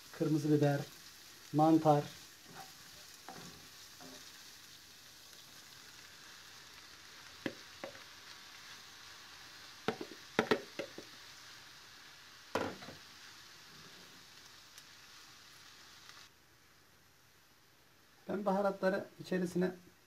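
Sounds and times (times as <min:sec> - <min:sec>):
vegetables sizzling in frying pan: 0:00.0 - 0:19.7.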